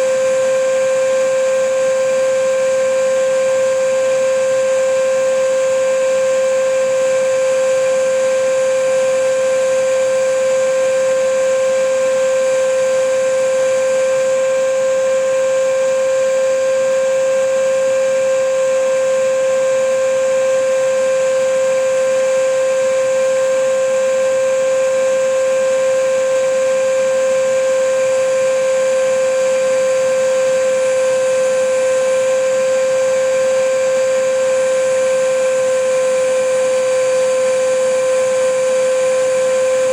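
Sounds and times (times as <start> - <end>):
vacuum cleaner motor: 0.0 - 39.9.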